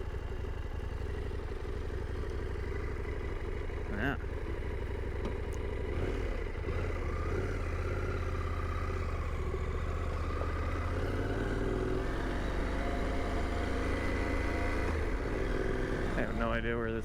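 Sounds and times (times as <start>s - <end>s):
motorcycle engine running at low revs: 0.0s - 17.0s.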